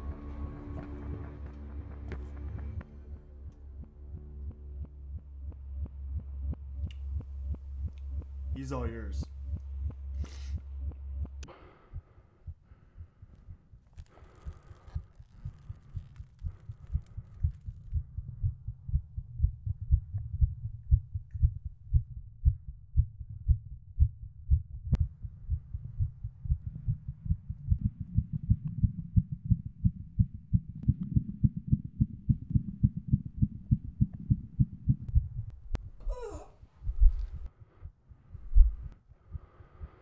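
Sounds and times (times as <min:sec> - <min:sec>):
rapid rhythmic thumping pulse: 0:00.0 - 0:13.9, 0:16.4 - 0:36.1.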